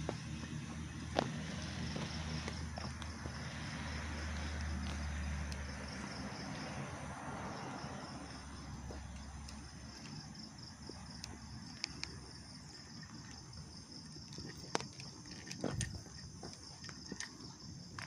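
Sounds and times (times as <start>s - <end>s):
crickets chirring: 0.0s - 18.0s
passing road vehicle rumble: 0.0s - 18.0s.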